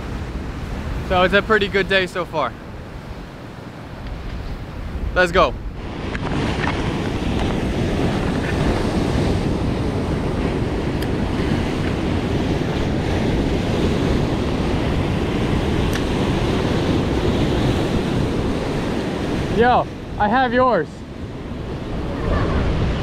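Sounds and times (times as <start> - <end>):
wind buffeting microphone: 0.0 - 23.0
surf breaking over rocks: 4.0 - 23.0.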